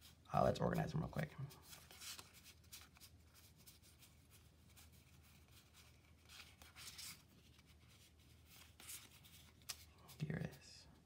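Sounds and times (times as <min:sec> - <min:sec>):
cards rustling: 0:00.1 - 0:10.6.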